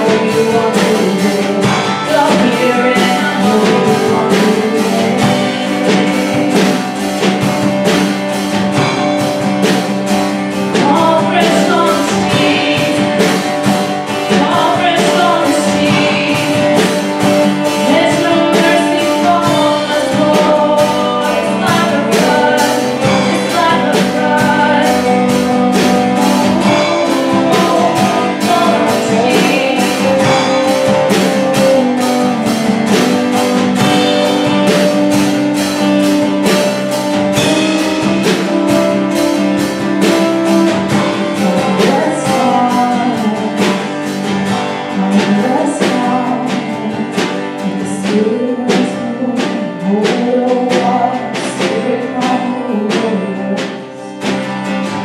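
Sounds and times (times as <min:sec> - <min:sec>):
woman singing into a microphone: 0:00.0 - 0:09.0, 0:09.7 - 0:36.6, 0:37.4 - 0:54.8
acoustic guitar strumming: 0:00.0 - 0:55.0.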